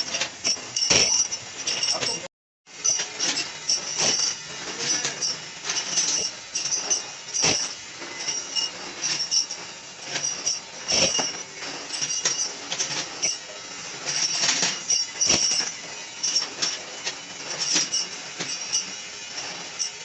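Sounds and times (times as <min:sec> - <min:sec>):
metal clanking on metal: 0:00.0 - 0:16.9
steady mechanical noise: 0:00.0 - 0:20.0.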